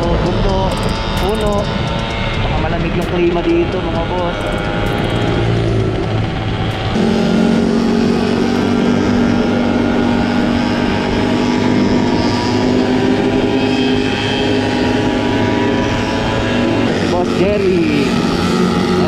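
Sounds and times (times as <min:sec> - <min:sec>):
scooter engine running: 0:00.0 - 0:19.0
wind rushing over microphone: 0:00.0 - 0:19.0.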